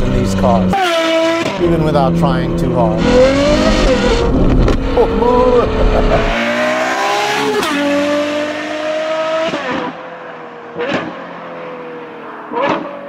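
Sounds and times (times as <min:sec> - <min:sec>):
sports car engine accelerating: 0:00.0 - 0:13.0.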